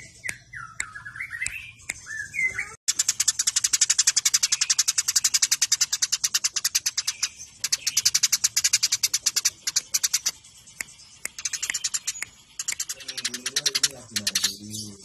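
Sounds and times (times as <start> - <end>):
sparrows chattering: 0.0 - 15.0.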